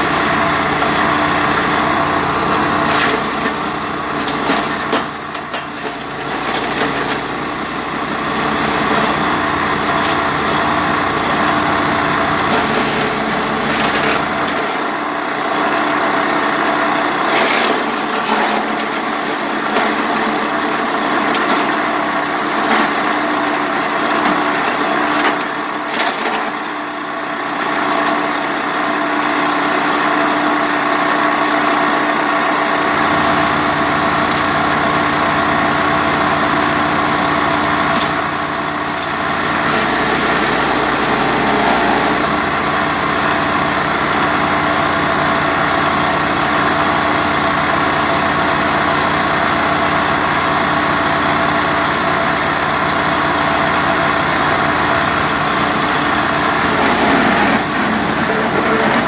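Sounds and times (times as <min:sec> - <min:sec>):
wood chipper engine running: 0:00.0 - 0:59.0.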